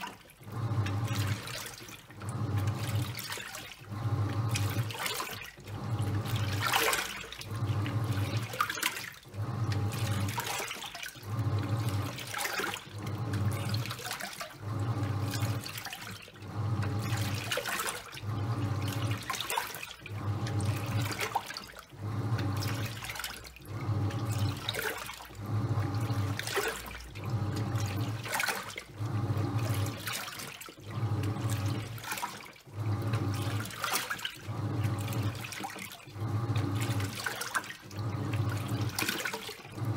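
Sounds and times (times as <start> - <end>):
washing machine motor humming: 0.0 - 39.9
water and towels sloshing: 0.0 - 39.9.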